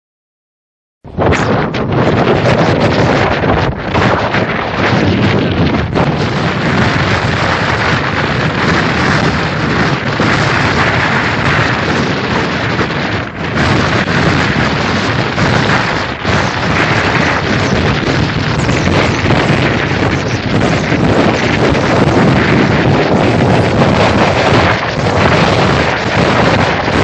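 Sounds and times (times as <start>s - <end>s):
wind buffeting microphone: 1.0s - 27.0s.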